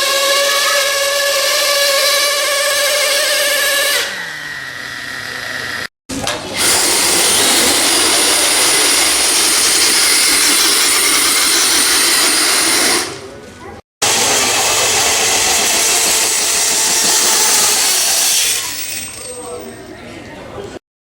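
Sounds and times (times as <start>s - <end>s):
rc truck engine buzzing: 0.0s - 13.3s, 14.0s - 19.3s.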